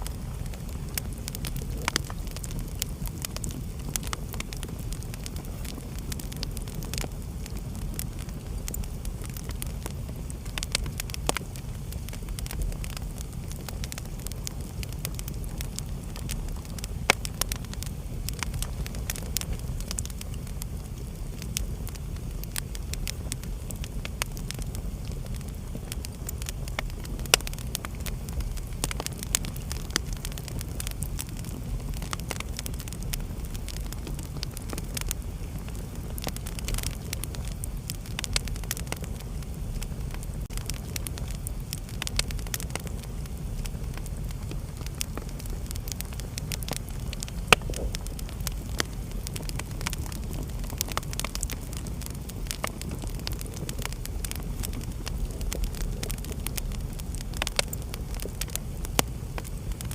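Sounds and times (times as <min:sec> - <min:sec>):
fire crackling and popping: 0:00.0 - 0:59.9
fire rumbling: 0:00.0 - 0:59.9.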